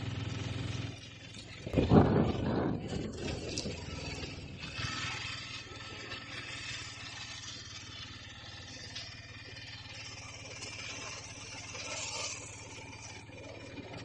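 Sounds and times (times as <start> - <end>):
road noise: 0.0 - 14.0
small engine throbbing: 0.0 - 14.0.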